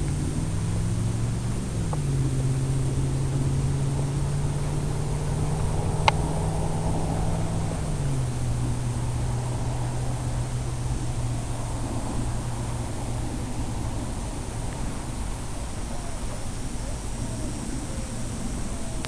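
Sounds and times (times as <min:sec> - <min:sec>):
air rushing: 0:00.0 - 0:19.0
model plane motor hum: 0:00.0 - 0:19.0.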